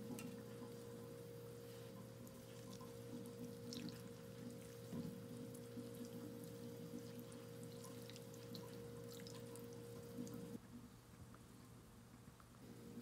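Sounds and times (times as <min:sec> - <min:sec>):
steady hum: 0:00.0 - 0:13.0
sauce trickling and dripping: 0:00.2 - 0:10.6.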